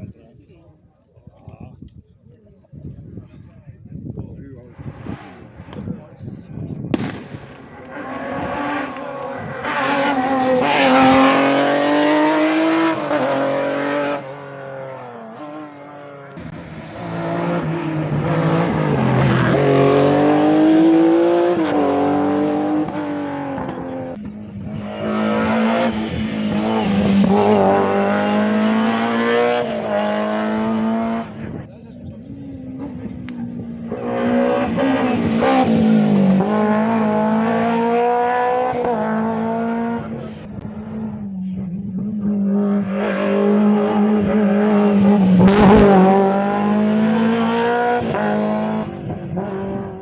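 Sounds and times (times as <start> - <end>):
rally car engine revving: 4.7 - 50.0.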